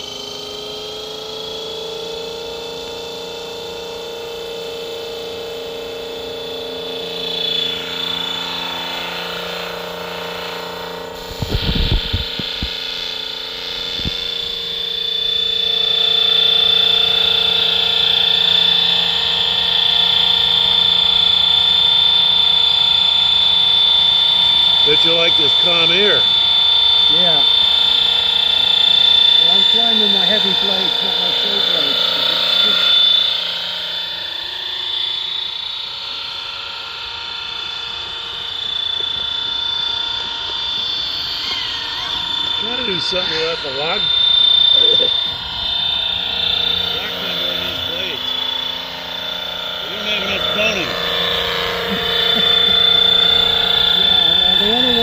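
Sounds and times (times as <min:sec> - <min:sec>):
helicopter whining and humming: 0:00.0 - 0:55.0.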